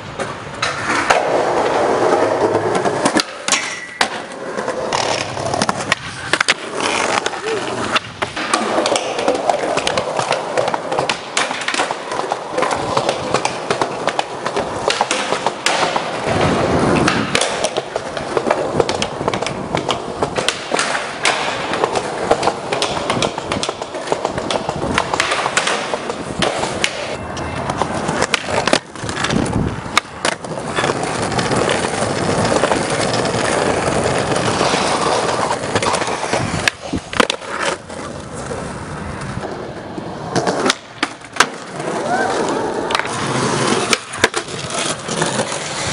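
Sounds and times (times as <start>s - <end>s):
skateboard wheels rolling on concrete: 0.0s - 45.9s
skateboard pops and clacks: 0.1s - 38.5s, 39.2s - 42.2s, 42.9s - 45.9s.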